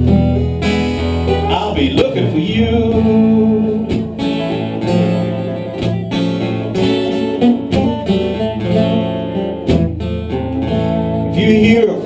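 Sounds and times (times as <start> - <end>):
bluesy acoustic guitar: 0.0 - 12.0.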